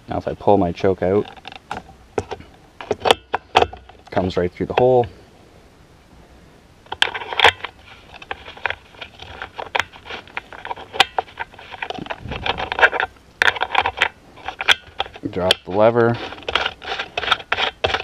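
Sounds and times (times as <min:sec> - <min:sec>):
plastic parts clicking and scraping: 0:01.1 - 0:05.1, 0:06.9 - 0:18.0.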